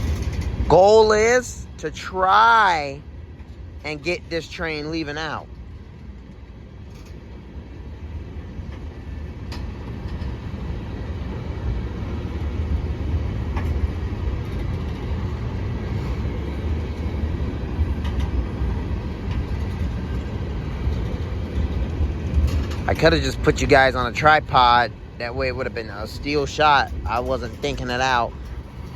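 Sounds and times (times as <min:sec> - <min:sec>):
diesel locomotive rumble: 0:00.0 - 0:28.9.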